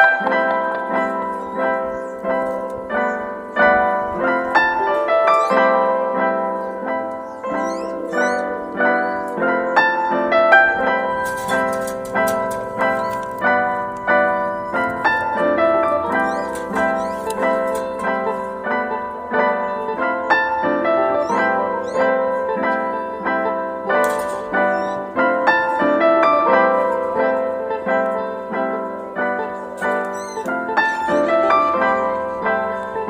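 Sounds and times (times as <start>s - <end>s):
background piano music: 0.0s - 33.0s.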